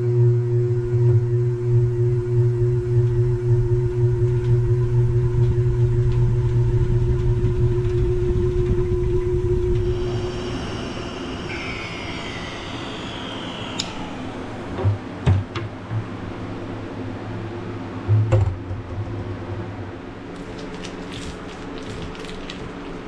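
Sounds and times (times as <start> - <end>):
honey extractor spinning hum: 0.0 - 23.0.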